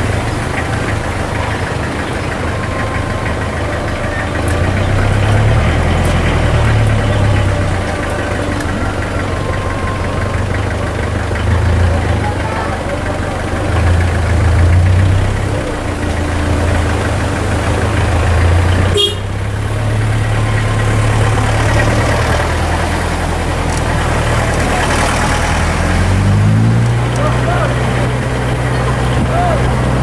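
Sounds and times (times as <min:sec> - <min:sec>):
car engine drone from inside cabin: 0:00.0 - 0:30.0.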